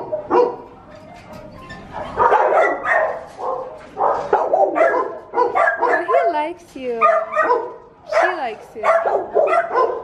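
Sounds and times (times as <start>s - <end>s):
dogs barking and yelping: 0.0s - 6.4s, 7.0s - 10.0s.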